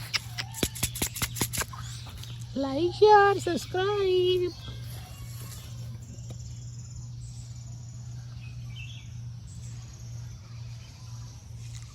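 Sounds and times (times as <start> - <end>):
insects trilling: 0.0 - 11.9
low hum: 0.0 - 11.9.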